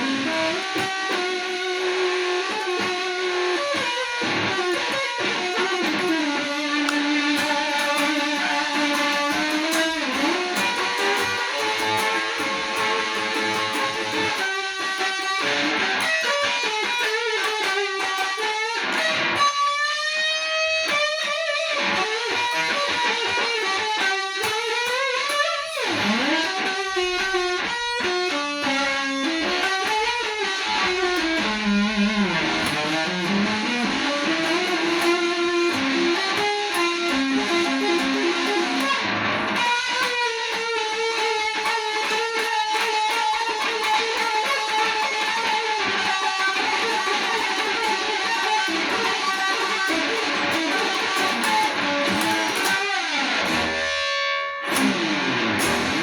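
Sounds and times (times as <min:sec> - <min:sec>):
electric guitar solo: 0:00.0 - 0:56.0.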